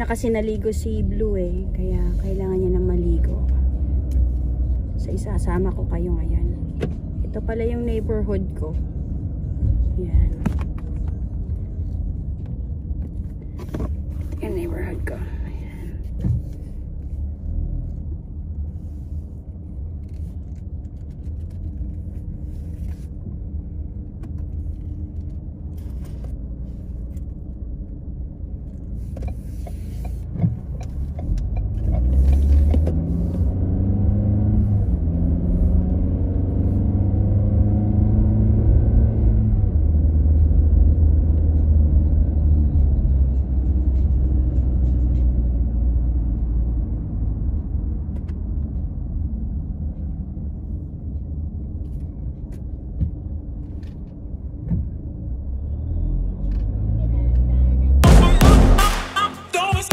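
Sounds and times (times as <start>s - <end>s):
car engine from inside cabin: 0.0s - 59.9s
road rumble: 0.0s - 59.9s.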